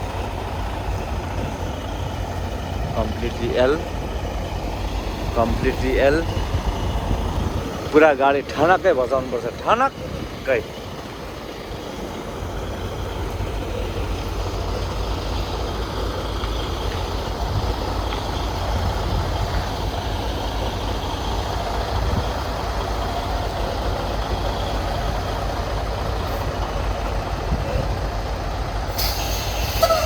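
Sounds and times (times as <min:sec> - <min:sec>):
truck diesel engine rumbling: 0:00.0 - 0:30.0.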